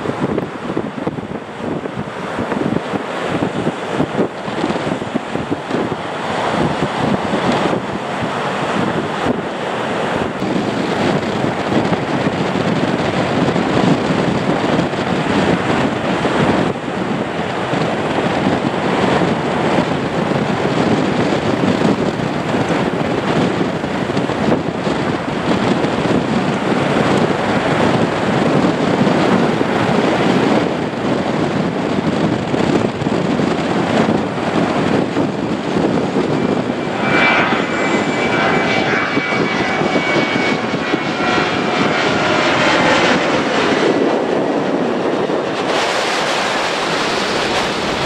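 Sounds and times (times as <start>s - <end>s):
jet engines at takeoff thrust: 0.0s - 48.0s
wind buffeting microphone: 0.0s - 48.0s.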